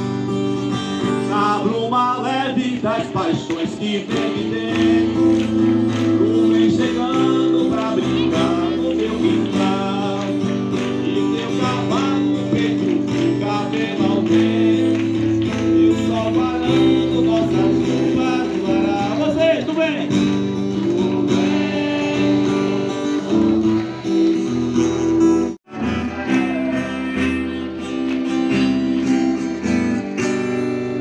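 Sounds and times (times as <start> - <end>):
strummed acoustic guitar: 0.0 - 31.0
man singing: 1.0 - 24.3, 25.6 - 28.4.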